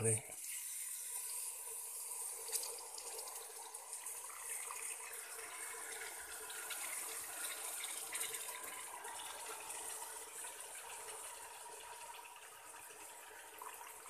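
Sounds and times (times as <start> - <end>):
masala sizzling in a pot: 0.3 - 14.0.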